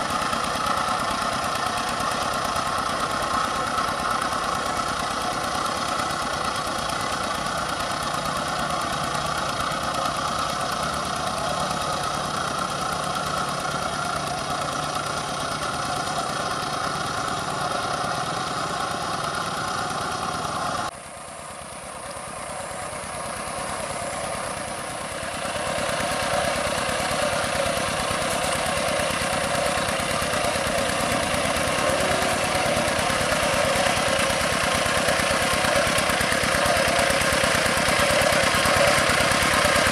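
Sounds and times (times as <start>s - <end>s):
approaching hand tractor: 0.0s - 39.9s
hand tractor diesel engine: 0.0s - 39.9s.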